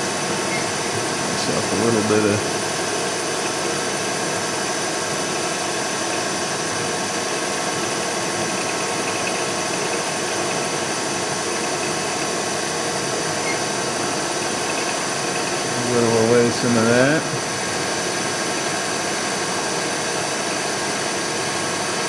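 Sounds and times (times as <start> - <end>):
milling machine spindle whine: 0.0 - 22.0.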